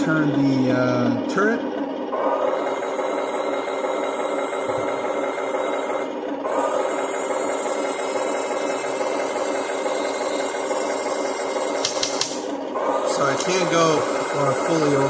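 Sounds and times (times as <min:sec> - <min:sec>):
electric motor whirring through gears: 0:00.0 - 0:15.0
simulated engine running sound: 0:00.0 - 0:15.0.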